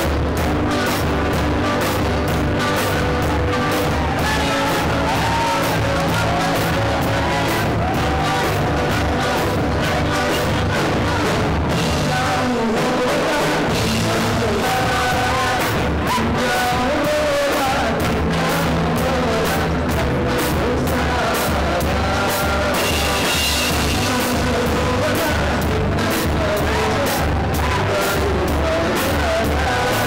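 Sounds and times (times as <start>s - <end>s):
bass guitar: 0.0s - 30.0s
drum kit beat: 0.0s - 30.0s
electric guitar: 0.0s - 30.0s
person singing: 0.0s - 30.0s.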